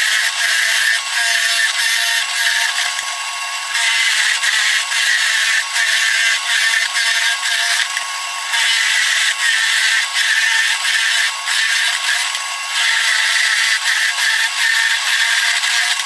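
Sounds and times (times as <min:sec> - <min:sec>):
drill press boring into wood: 0:00.0 - 0:16.0.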